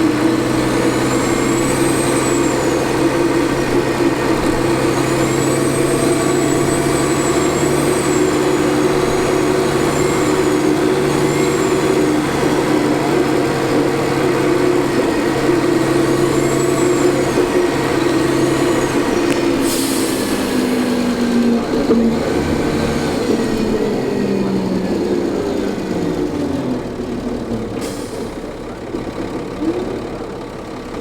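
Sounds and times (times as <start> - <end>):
turbocharger whine: 0.0 - 27.7
bus diesel engine drone: 0.0 - 31.0.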